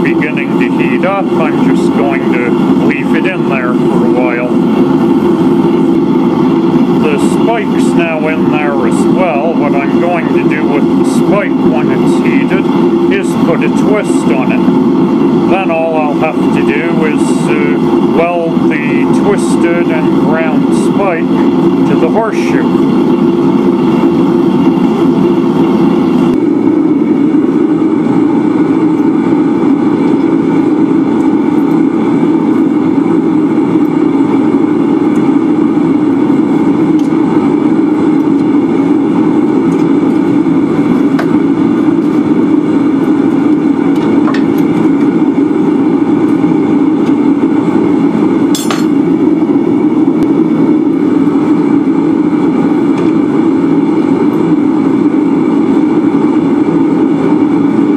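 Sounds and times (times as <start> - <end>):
gas burner flame rushing: 0.0 - 57.9.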